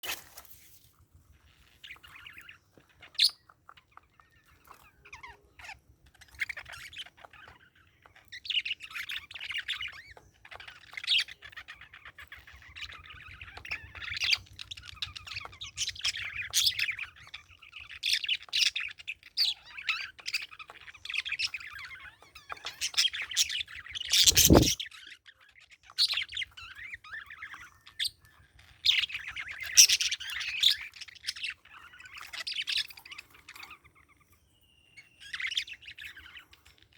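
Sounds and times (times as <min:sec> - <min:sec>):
parakeet chirping: 0:01.6 - 0:24.8, 0:26.1 - 0:34.2.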